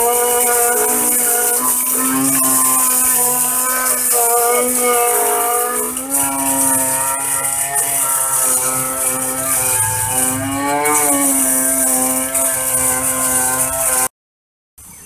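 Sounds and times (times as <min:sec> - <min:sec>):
mill motor humming: 0:00.0 - 0:14.1.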